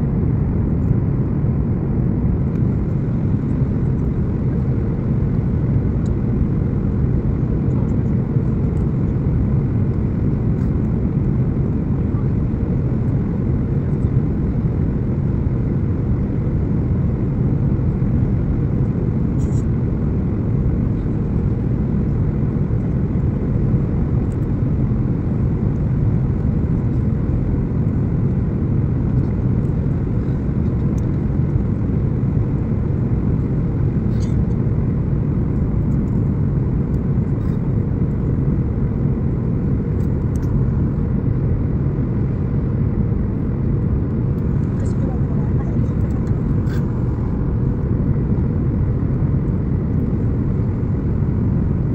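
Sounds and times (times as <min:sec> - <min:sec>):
airliner cabin rumble: 0:00.0 - 0:51.9
faint steady hum: 0:00.0 - 0:51.9.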